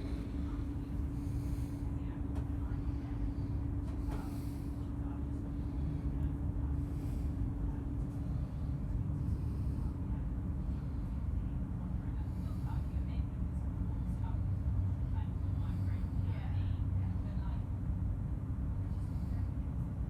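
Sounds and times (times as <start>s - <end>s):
train rumbling: 0.0s - 19.4s
constant hum: 0.0s - 20.0s.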